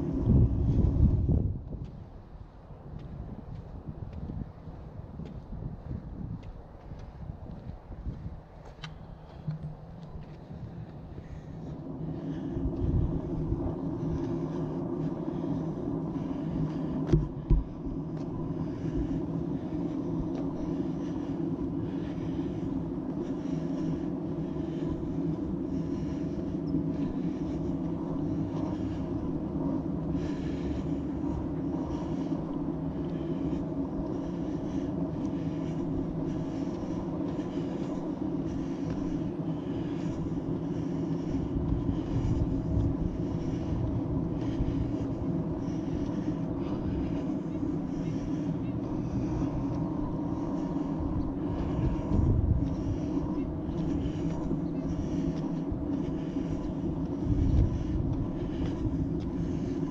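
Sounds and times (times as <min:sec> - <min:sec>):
footsteps on dirt trail: 0:00.0 - 0:59.9
low mechanical hum: 0:00.0 - 0:59.9.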